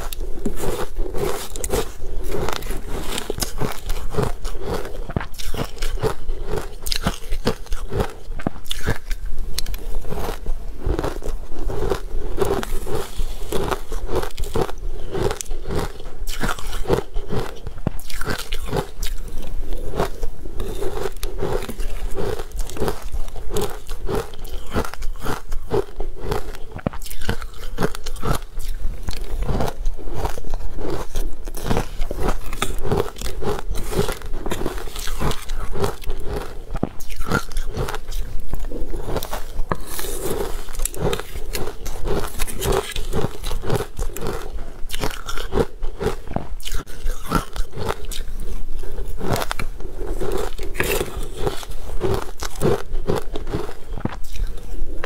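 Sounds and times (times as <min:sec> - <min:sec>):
person chewing crushed ice: 0:00.0 - 0:55.0.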